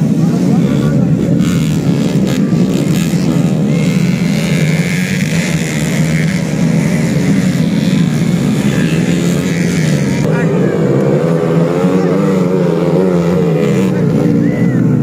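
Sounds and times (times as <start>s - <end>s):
motorcycles revving: 0.0s - 15.0s.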